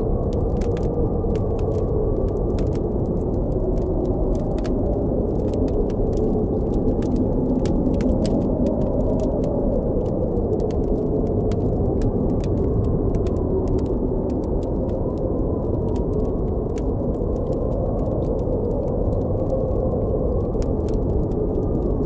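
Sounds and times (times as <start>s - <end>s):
blizzard wind blowing: 0.0s - 22.0s
campfire crackling: 0.0s - 22.0s.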